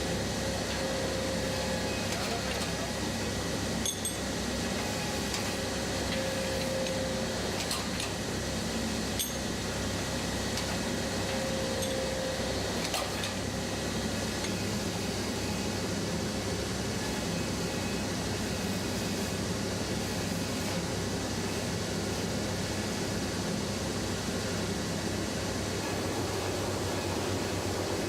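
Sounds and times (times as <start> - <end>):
factory machinery humming: 0.0 - 28.0.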